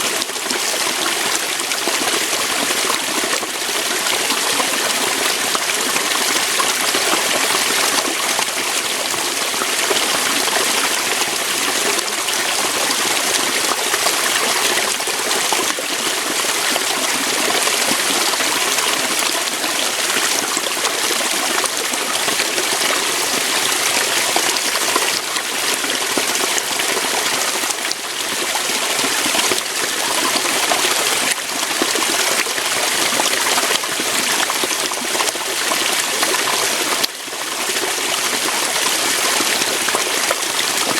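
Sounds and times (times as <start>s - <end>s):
water splashing over rocks: 0.0s - 40.9s.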